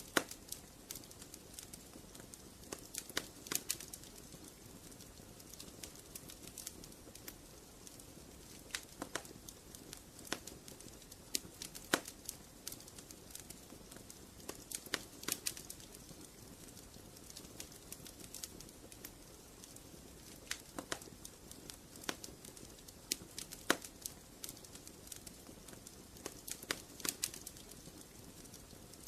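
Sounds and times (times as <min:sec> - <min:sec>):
soft steady hiss: 0:00.0 - 0:29.0
wood fire crackling and popping: 0:00.0 - 0:29.0.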